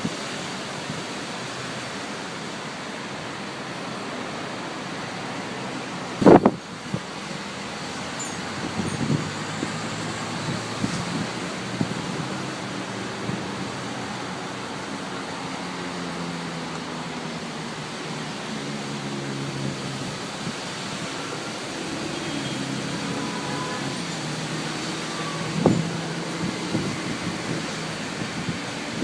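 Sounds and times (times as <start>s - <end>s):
wind and rain hiss: 0.0s - 29.0s
vehicle engine hum: 3.4s - 29.0s.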